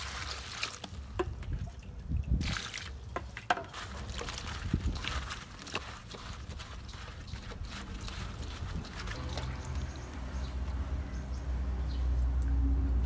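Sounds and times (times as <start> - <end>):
water sloshing in a metal bowl: 0.0 - 12.6.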